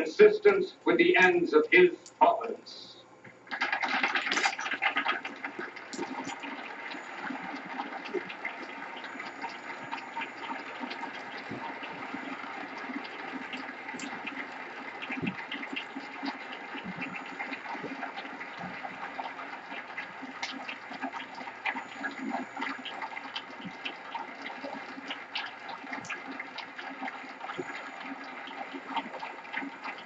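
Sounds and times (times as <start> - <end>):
crowd applauding: 3.5 - 30.0.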